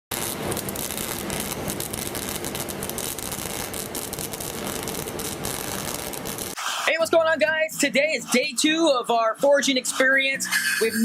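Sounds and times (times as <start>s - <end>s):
wood fire crackling: 0.1s - 9.6s.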